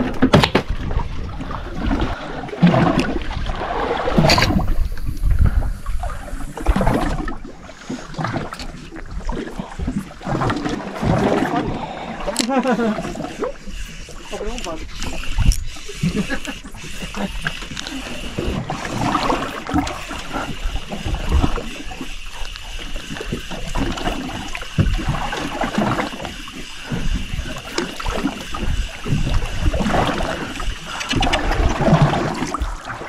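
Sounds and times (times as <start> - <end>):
water splashing against boat: 0.0 - 33.0.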